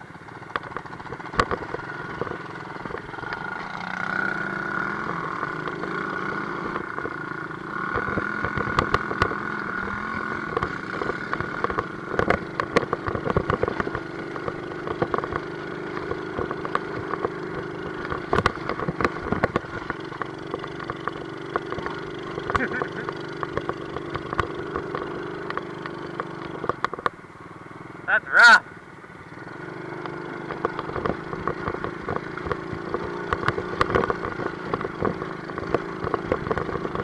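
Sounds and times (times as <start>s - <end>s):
knocks and rattles of bike: 0.0s - 28.0s, 29.0s - 37.0s
dirt bike engine running: 0.0s - 37.0s.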